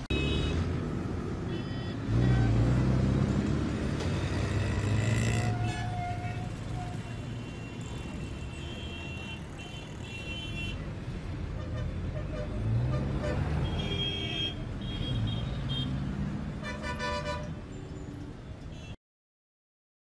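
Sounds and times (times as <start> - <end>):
vehicle engines passing: 0.0 - 18.7.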